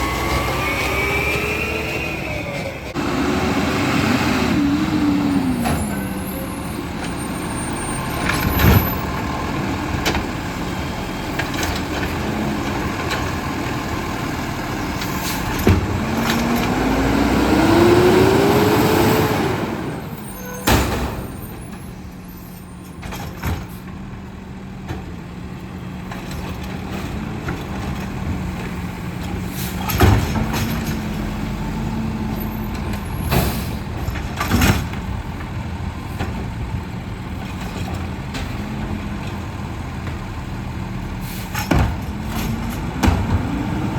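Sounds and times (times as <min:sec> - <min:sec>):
garbage truck engine revving: 0:00.0 - 0:21.4, 0:24.8 - 0:43.9.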